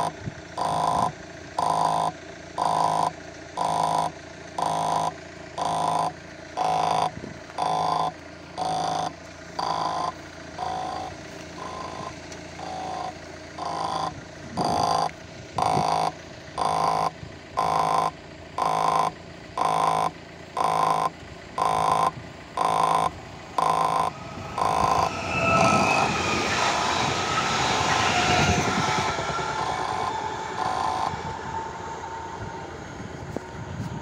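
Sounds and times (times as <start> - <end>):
electric train approaching: 0.0 - 17.9, 21.6 - 34.0
level crossing warning tone: 0.0 - 34.0.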